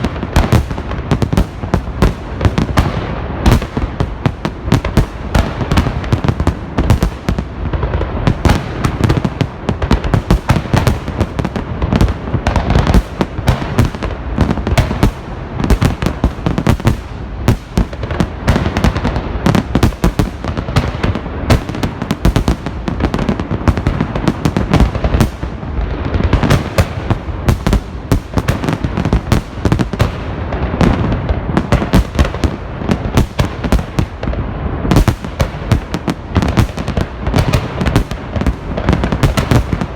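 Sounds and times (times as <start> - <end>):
fireworks bursts and crackling: 0.0 - 39.9.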